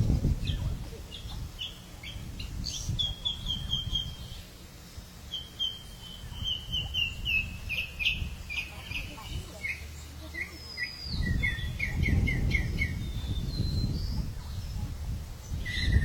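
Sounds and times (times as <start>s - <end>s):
bird singing: 0.4s - 16.0s.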